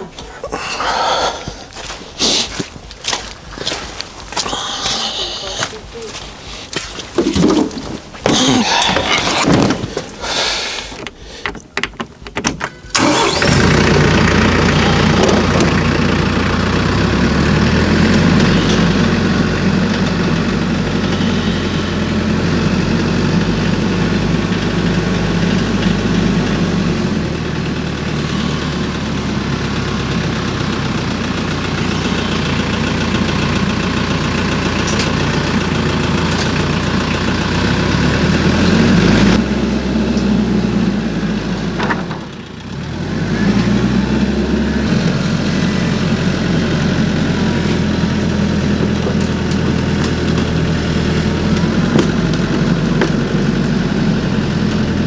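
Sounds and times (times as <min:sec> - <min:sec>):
engine cranking and idling: 0:00.0 - 0:55.0.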